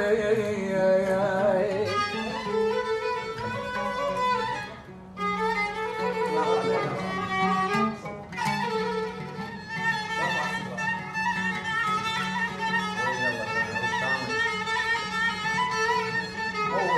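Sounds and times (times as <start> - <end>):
oud plucking: 0.0 - 16.9
violin melody: 0.0 - 16.9.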